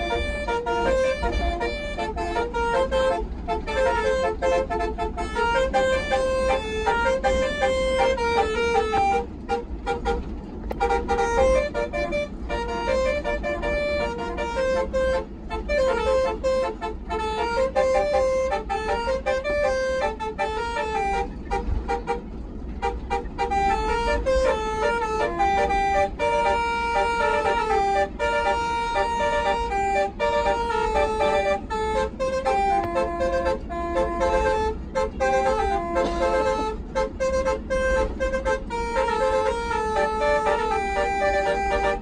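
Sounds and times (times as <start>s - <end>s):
bus air horns playing a tune: 0.0s - 42.0s
bus engine rumble: 0.0s - 42.0s.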